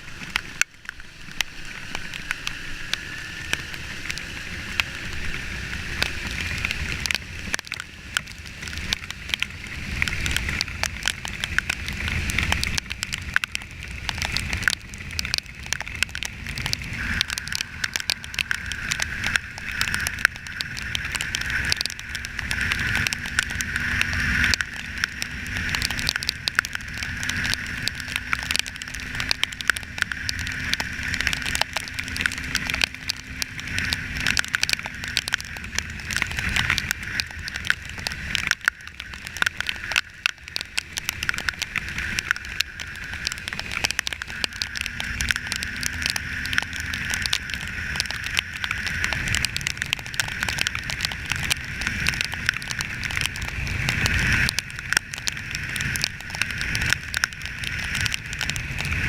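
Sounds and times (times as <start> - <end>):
rain and wind on microphone: 0.0 - 59.0.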